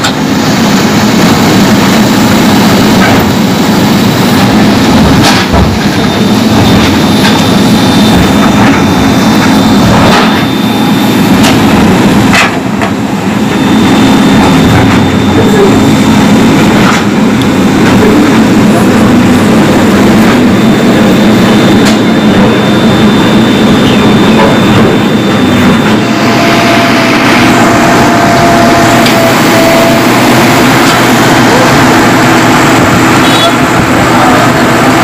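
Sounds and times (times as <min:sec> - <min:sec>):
diesel engines running: 0:00.0 - 0:35.0.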